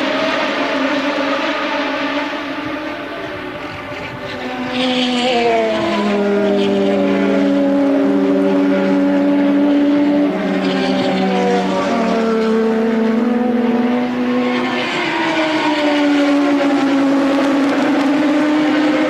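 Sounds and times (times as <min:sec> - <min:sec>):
race car engines: 0:00.0 - 0:19.0.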